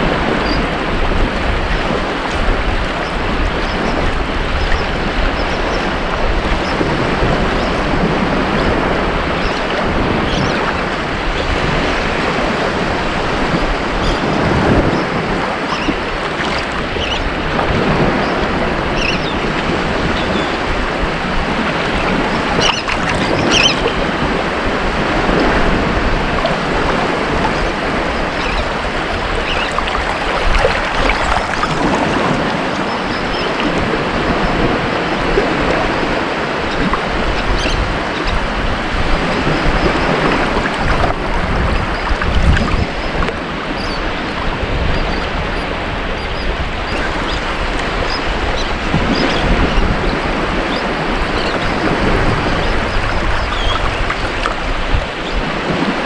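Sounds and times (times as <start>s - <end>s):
ocean waves breaking: 0.0s - 56.0s
wind on microphone: 0.0s - 56.0s.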